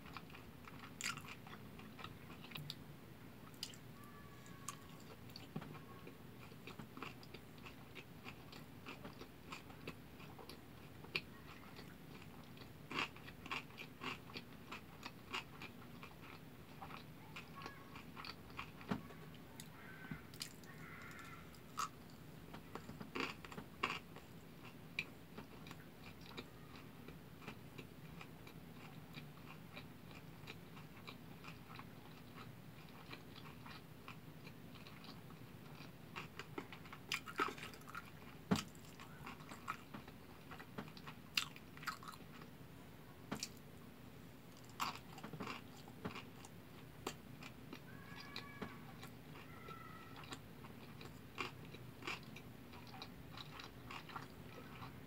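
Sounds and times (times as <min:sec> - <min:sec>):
close-miked chewing: 0:00.0 - 0:02.8, 0:03.4 - 0:42.6, 0:44.4 - 0:55.0.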